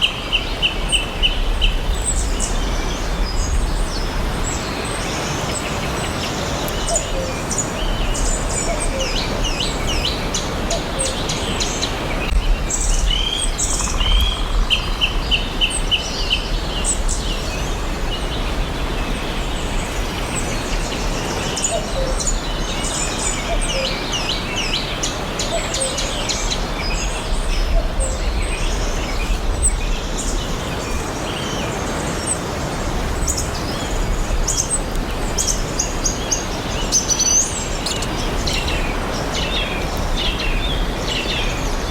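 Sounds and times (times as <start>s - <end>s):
songbirds chirping and singing: 0.0s - 41.9s.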